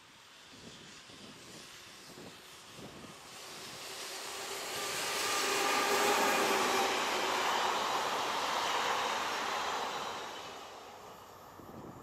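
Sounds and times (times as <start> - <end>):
train wheels rushing on rails: 0.3 - 12.0.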